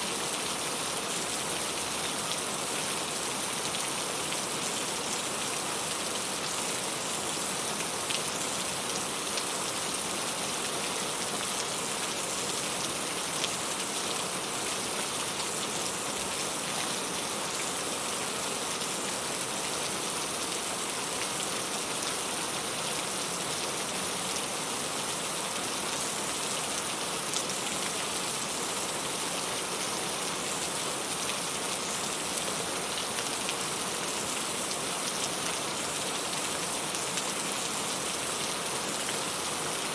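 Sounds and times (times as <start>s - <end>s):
rain pattering on a surface: 0.3s - 39.9s.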